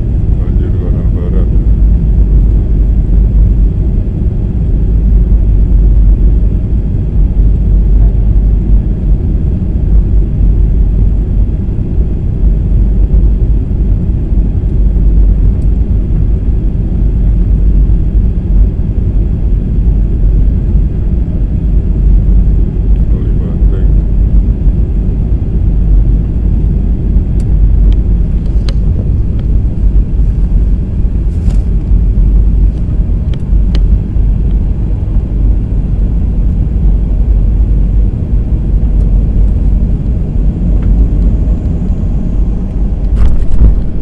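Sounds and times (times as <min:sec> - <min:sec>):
airliner cabin rumble: 0:00.0 - 0:44.0.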